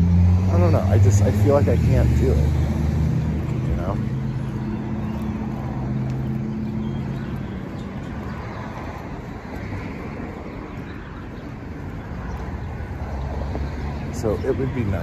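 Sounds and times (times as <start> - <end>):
passing cars: 0.0 - 15.0
vehicle engine humming: 0.0 - 15.0.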